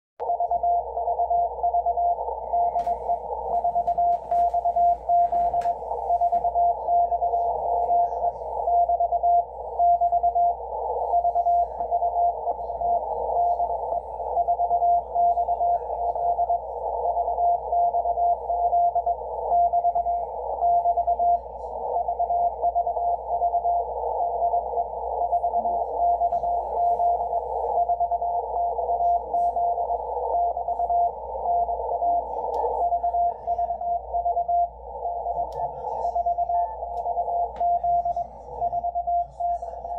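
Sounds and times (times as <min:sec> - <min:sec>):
morse code tone: 0:00.2 - 0:39.9
radio static hiss: 0:02.3 - 0:39.9.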